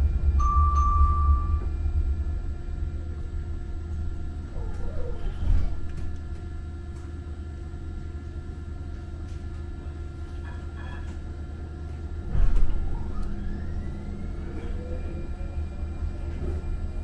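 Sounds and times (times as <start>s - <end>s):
light-rail train rumbling: 0.0s - 17.0s.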